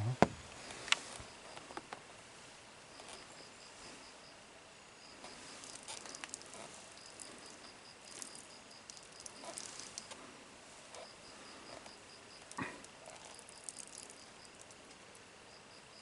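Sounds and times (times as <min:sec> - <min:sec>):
insect chirping: 0:00.4 - 0:16.0.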